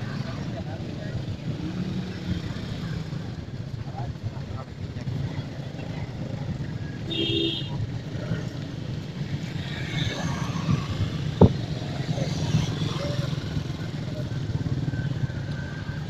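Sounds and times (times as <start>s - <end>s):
motorbike engines running: 0.0s - 16.0s.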